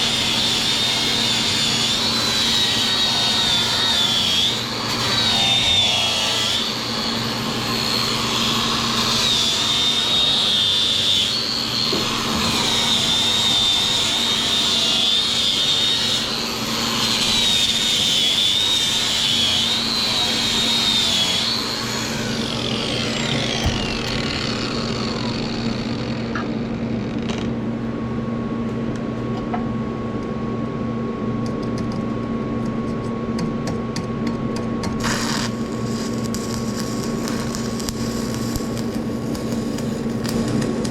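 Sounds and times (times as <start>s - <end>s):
power grinder whining on metal: 0.0s - 27.4s, 35.0s - 40.7s
steady machine hum: 0.0s - 40.9s.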